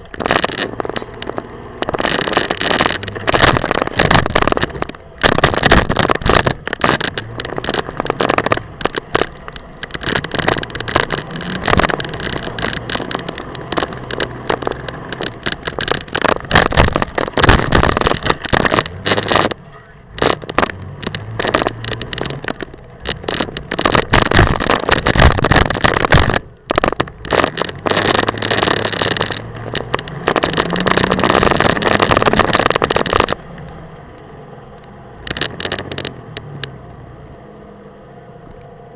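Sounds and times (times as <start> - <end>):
truck engine revving: 0.0 - 34.2.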